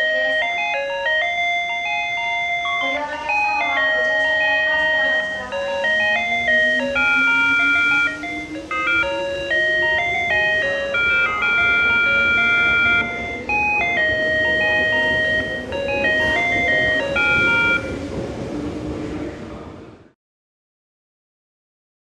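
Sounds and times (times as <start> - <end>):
electronic melody of stepped notes: 0.0 - 18.0.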